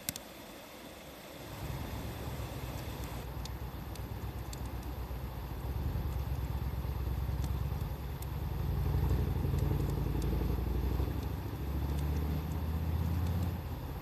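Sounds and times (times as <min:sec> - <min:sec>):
campfire crackling: 0:00.0 - 0:14.0
steady low rumble: 0:01.4 - 0:14.0.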